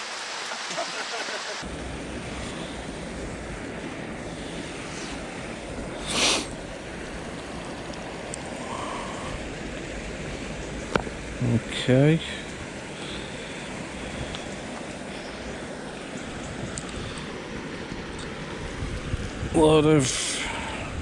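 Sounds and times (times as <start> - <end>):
wind rumbling on microphone: 1.6 - 21.0.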